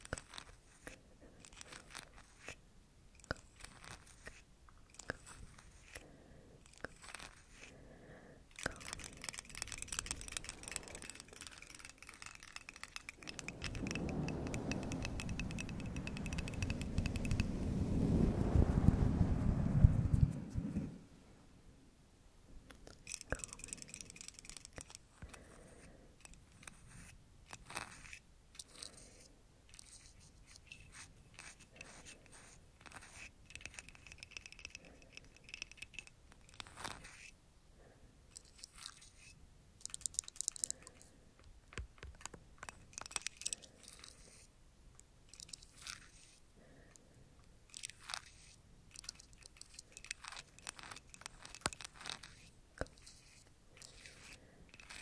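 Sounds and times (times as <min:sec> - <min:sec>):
crackly scratching clicks: 0:00.0 - 0:06.0, 0:06.6 - 0:07.7, 0:08.5 - 0:17.8, 0:22.7 - 0:37.4, 0:38.3 - 0:55.0
soft brushing strokes: 0:00.0 - 0:22.0, 0:22.8 - 0:37.4, 0:38.3 - 0:41.4, 0:42.2 - 0:55.0.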